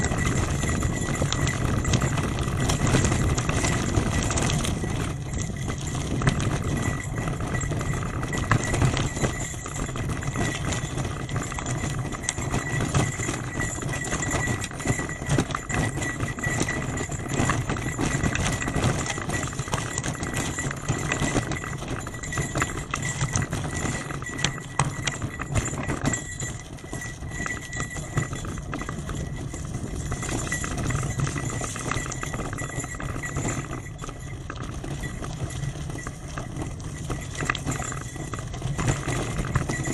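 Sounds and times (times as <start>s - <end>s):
bicycle rattling: 0.0s - 39.9s.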